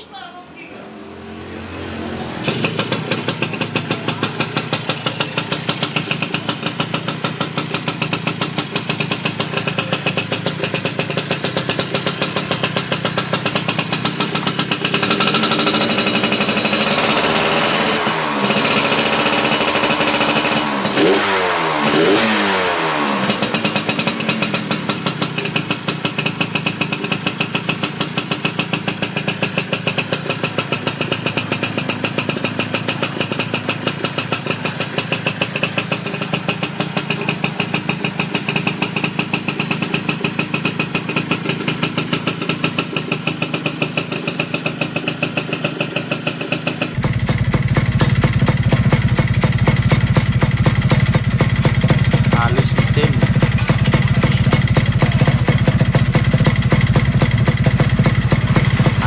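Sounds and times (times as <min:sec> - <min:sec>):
deeper motorbike engine idling: 0:02.3 - 0:21.3, 0:21.9 - 0:59.0
two-stroke motorcycle engine idling: 0:02.4 - 0:59.0.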